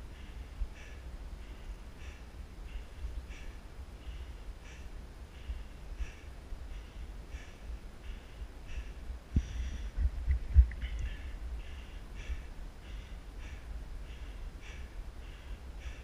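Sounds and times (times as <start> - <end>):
hard rhythmic breathing: 0.1 - 16.0.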